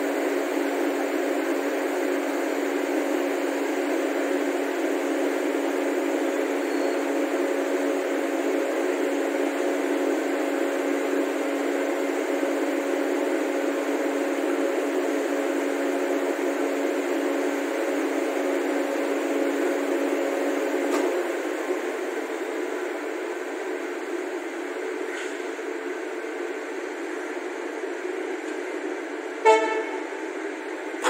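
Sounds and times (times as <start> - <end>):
electric locomotive hum: 0.0 - 31.0.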